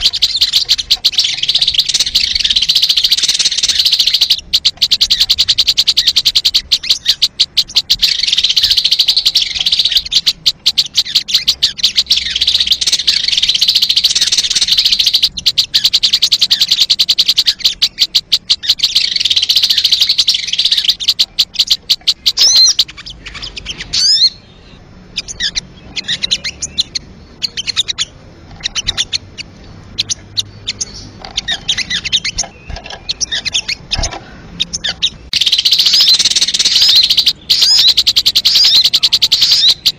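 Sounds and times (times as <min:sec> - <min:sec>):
bird rattling trill: 0:00.0 - 0:24.3, 0:25.2 - 0:39.9
bird chirps and whistles: 0:00.0 - 0:24.5, 0:30.0 - 0:39.9.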